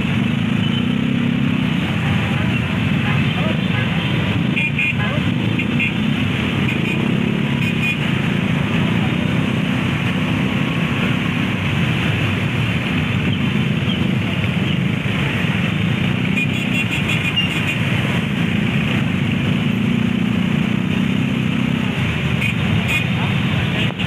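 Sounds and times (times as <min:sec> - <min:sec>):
drone of motorcycle engines: 0:00.0 - 0:24.0.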